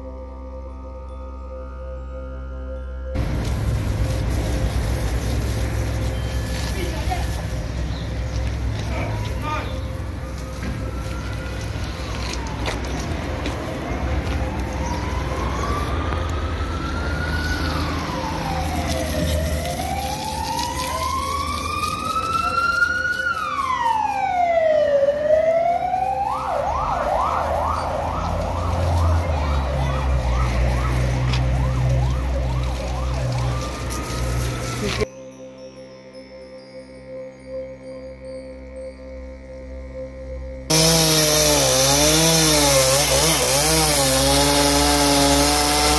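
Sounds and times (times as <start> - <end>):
emergency vehicle siren: 3.2 - 35.1, 40.7 - 45.9.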